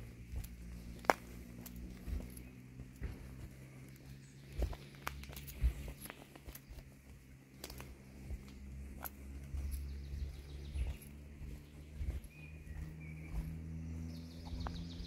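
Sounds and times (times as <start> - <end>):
footsteps on woodland path: 0.0 - 15.0
wind rumble on microphone: 0.0 - 15.0.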